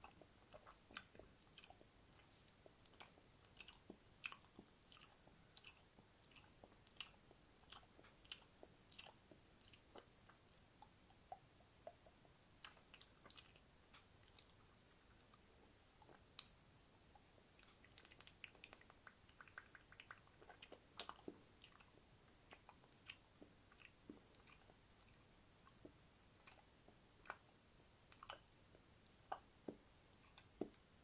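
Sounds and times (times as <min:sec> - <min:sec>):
wet mouth clicks and smacks: 0:00.0 - 0:15.4, 0:17.2 - 0:27.5, 0:28.1 - 0:30.8.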